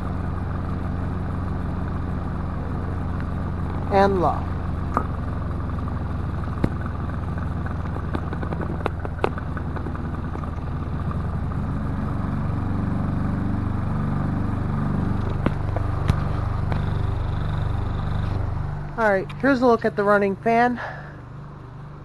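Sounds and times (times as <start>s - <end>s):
table fan running: 0.0s - 22.0s.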